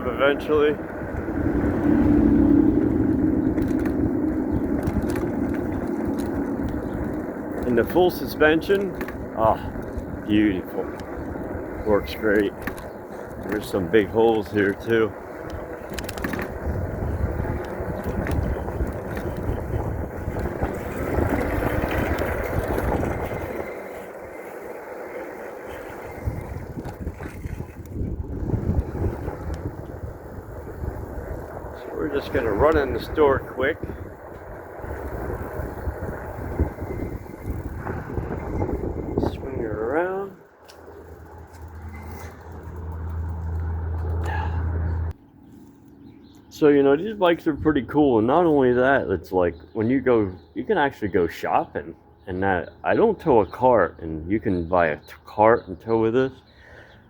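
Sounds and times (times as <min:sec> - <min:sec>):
wind rumbling on microphone: 0:00.0 - 0:45.2, 0:46.0 - 0:50.8
road and tyre noise: 0:00.0 - 0:57.0
electric bike motor hum: 0:00.1 - 0:46.4.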